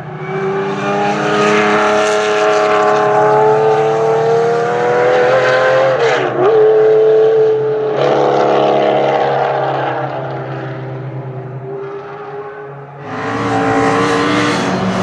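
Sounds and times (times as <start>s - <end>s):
racing car engine at full throttle: 0.0s - 15.0s.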